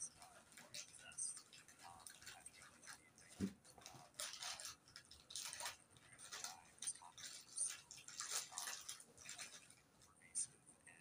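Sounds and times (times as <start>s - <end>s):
faint clicks and rustles: 0.0s - 11.0s.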